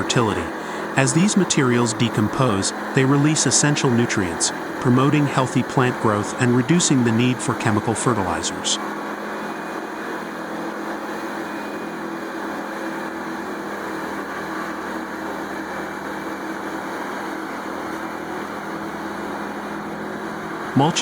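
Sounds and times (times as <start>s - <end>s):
wood chipper running: 0.0s - 21.0s.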